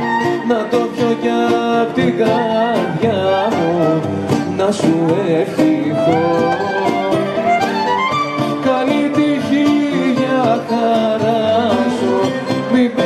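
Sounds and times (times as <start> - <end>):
bouzouki and violin melody: 0.0 - 13.0
guitar chords: 0.0 - 13.0
hand drum beat: 0.0 - 13.0.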